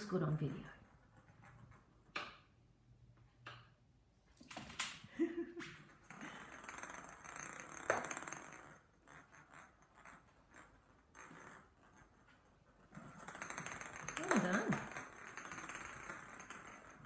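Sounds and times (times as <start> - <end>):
plastic ball rolling on tile: 0.0 - 3.8, 4.8 - 17.0.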